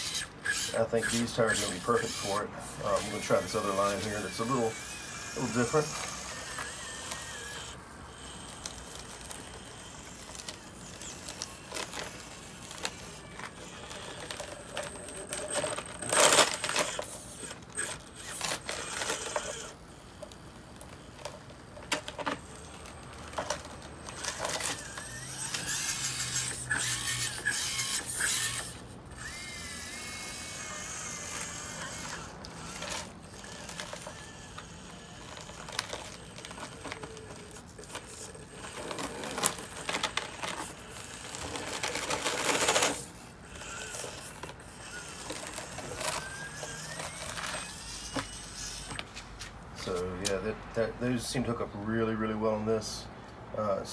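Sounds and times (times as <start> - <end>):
small electric motor whining: 0.0 - 52.9.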